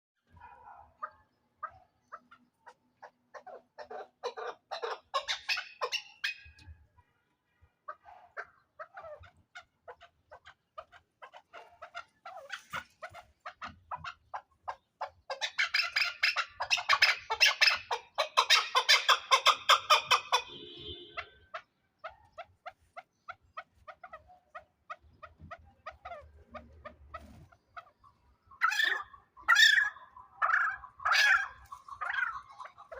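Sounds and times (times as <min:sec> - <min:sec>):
partridges clucking calls: 0:01.0 - 0:06.8, 0:07.9 - 0:20.5, 0:21.2 - 0:32.9.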